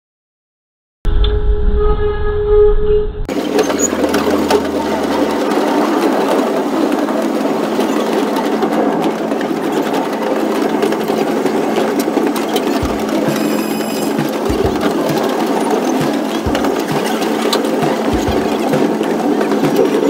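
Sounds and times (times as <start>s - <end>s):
low hum: 1.1s - 9.6s, 10.8s - 20.0s
fast mechanical rattling: 3.3s - 20.0s.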